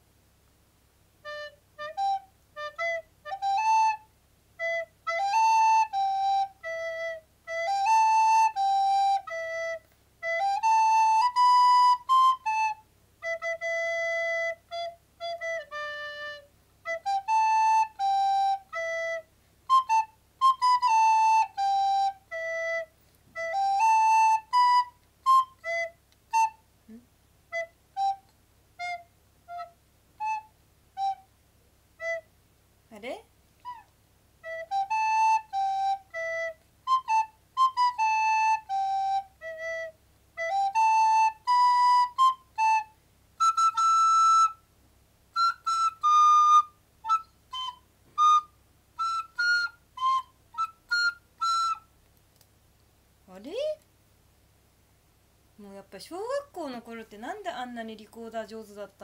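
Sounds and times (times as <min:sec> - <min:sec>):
recorder playing melody: 0:01.2 - 0:31.3, 0:32.0 - 0:32.3, 0:33.6 - 0:44.6, 0:45.3 - 0:51.9.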